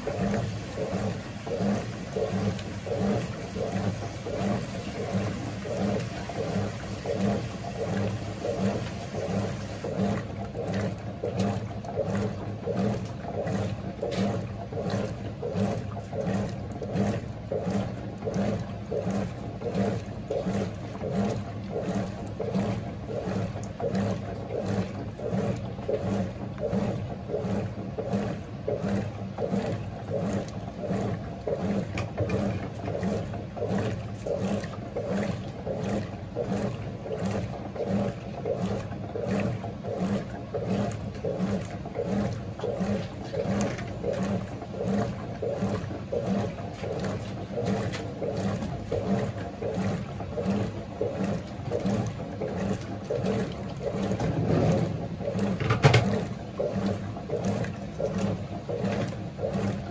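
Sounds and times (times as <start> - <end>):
motor hum: 0.0 - 59.9
washing machine agitator: 0.0 - 59.9
water sloshing: 0.0 - 59.9.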